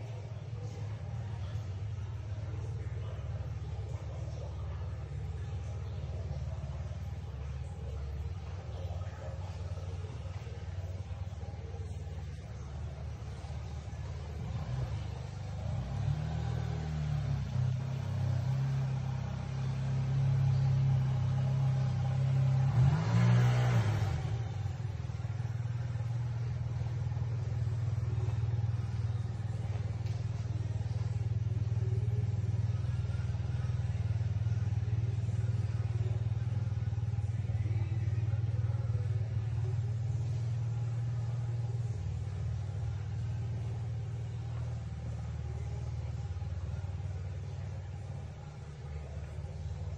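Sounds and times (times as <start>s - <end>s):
engine idling and revving: 0.0s - 49.9s.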